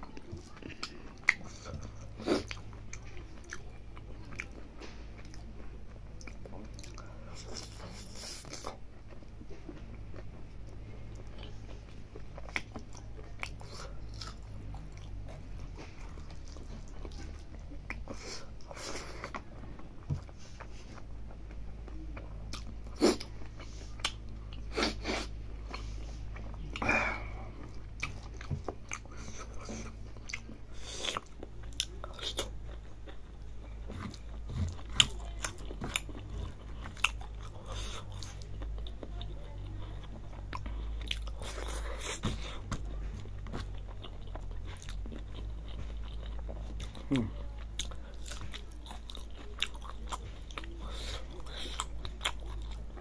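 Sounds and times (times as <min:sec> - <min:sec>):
man chewing and lip-smacking: 0:00.0 - 0:26.9, 0:27.5 - 0:53.0
steady low hum: 0:00.0 - 0:53.0.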